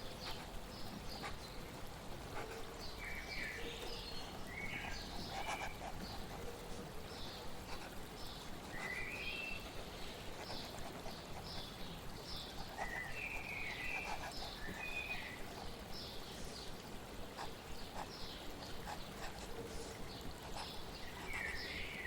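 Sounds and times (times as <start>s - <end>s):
flowing water hiss: 0.0s - 22.0s
small birds chirping: 0.0s - 22.0s.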